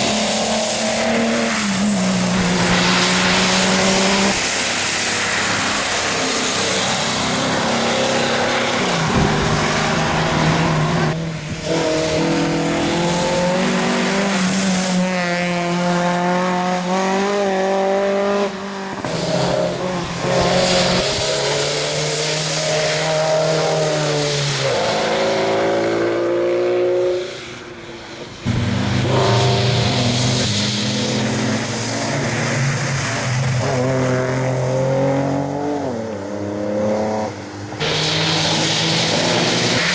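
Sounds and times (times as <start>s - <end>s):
rally car engines revving: 0.0s - 39.9s
tyres hissing on wet road: 0.0s - 39.9s.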